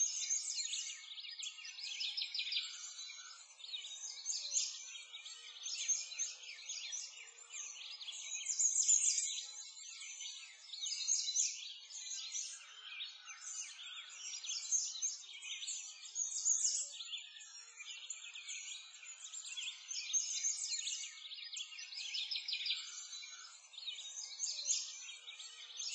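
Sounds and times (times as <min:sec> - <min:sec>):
songbirds chirping: 0:00.0 - 0:25.9.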